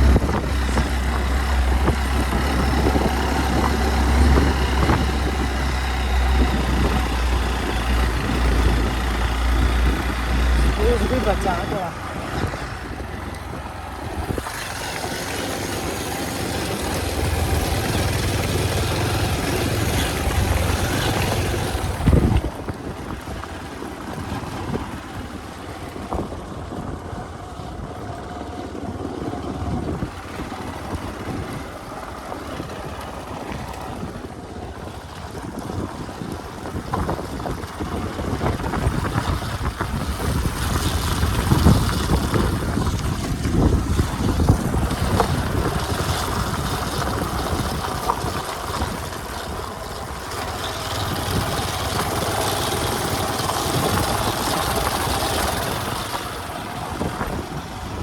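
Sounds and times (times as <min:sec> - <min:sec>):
motorcycle engine rumbling: 0:00.0 - 0:58.0
wind buffeting microphone: 0:00.0 - 0:58.0.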